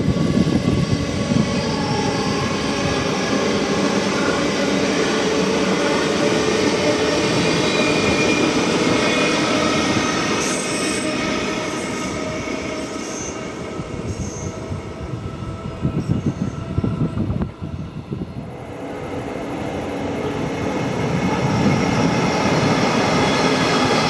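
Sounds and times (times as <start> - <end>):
train wheels on rail: 0.0 - 24.0.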